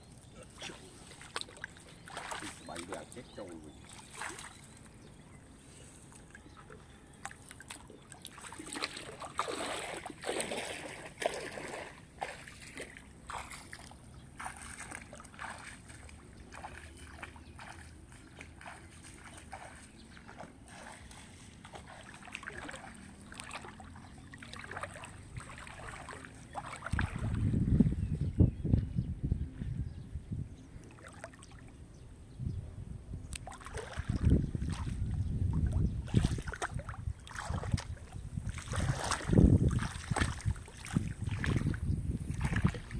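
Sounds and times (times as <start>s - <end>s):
water splashing and sloshing: 0.1s - 28.1s, 30.7s - 31.9s, 33.2s - 42.9s.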